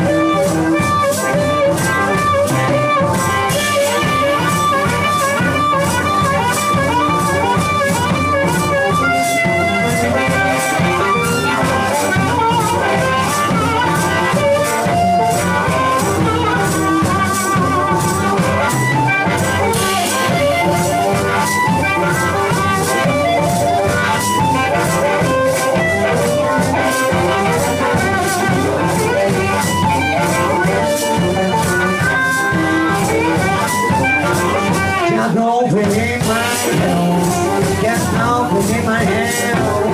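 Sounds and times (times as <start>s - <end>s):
maracas shaking: 0.0s - 35.2s
electric guitar: 0.0s - 39.9s
harmonica melody: 0.0s - 39.9s.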